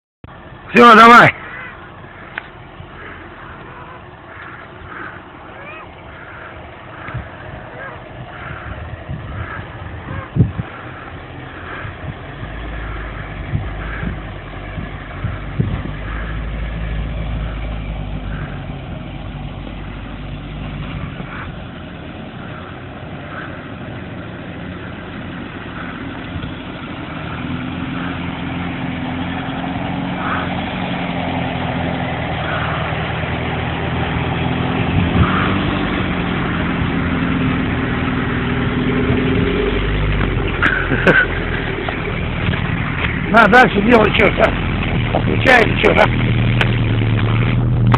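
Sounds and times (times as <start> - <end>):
car driving through tall grass: 0.3 - 47.9
car engine running: 0.3 - 47.9.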